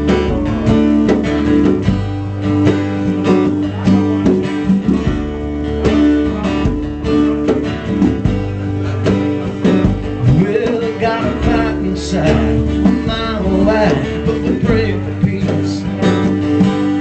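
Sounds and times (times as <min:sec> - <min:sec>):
country band playing: 0:00.0 - 0:17.0
strummed guitar: 0:00.0 - 0:17.0.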